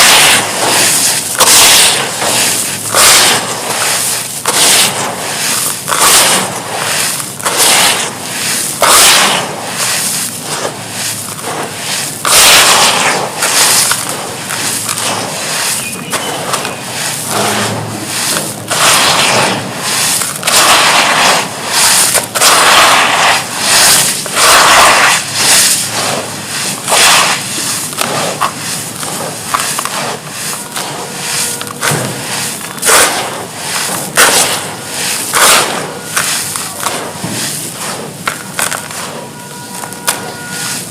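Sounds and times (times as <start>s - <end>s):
charcoal crunching: 0.0s - 40.9s.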